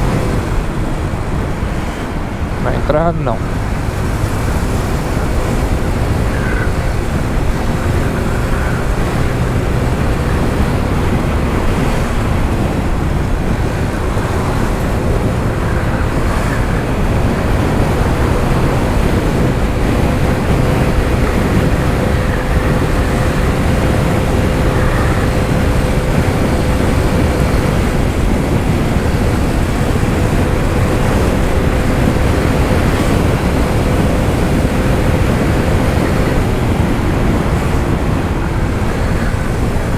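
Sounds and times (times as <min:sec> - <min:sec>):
scooter engine humming: 0:00.0 - 0:39.9
wind rushing over microphone: 0:00.0 - 0:39.9.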